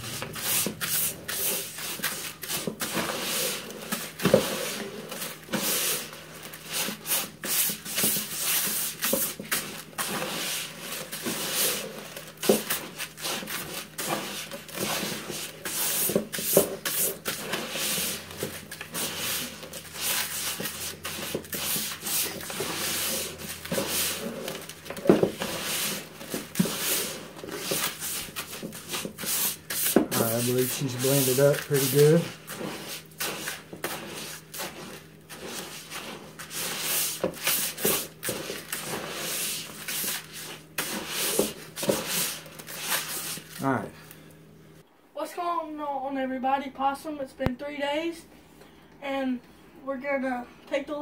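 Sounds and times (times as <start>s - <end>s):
grains scraping bucket sides: 0.0s - 43.9s.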